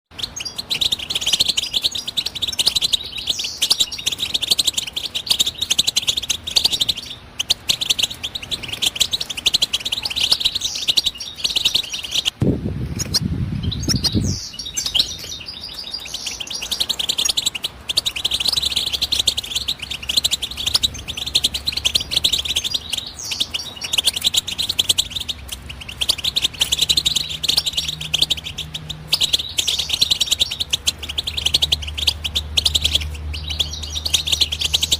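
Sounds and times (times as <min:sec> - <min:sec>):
goldfinch twittering song: 0:00.1 - 0:34.9.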